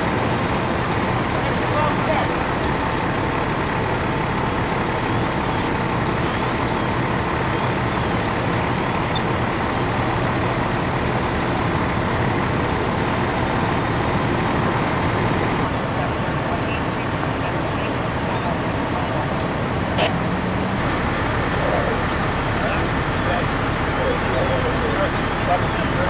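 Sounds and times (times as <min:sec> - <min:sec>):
fire engine rumbling: 0:00.0 - 0:26.0.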